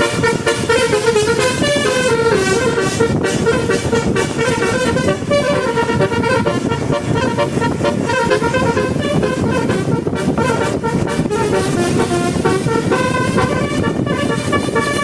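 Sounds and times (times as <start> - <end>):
musical air horn melody: 0.0 - 15.0
steady low rumble: 0.0 - 15.0.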